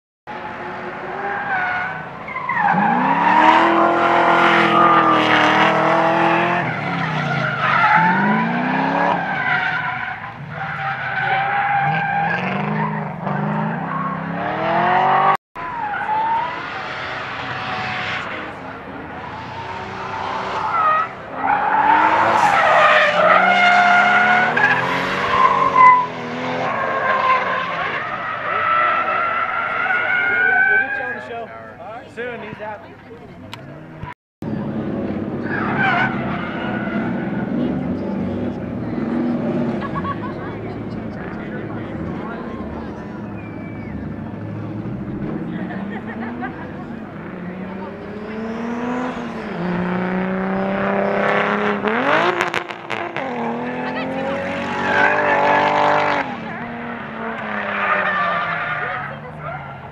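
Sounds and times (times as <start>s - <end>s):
car engines revving: 0.3s - 59.9s.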